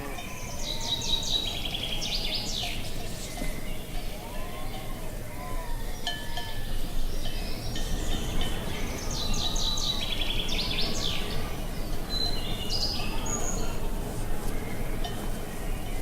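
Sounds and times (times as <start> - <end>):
birds chirping and trilling: 0.0 - 5.1, 5.7 - 16.0.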